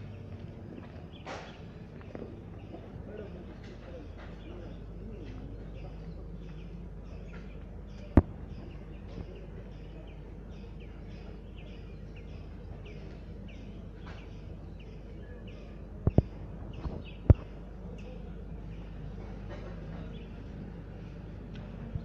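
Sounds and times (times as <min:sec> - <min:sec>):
birds chirping: 0:00.0 - 0:22.0
low steady rumble: 0:00.0 - 0:22.0.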